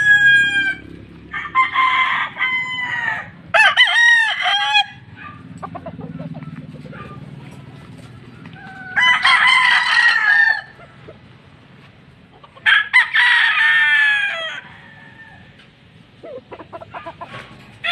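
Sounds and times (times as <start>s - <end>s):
roosters crowing: 0.0s - 17.9s.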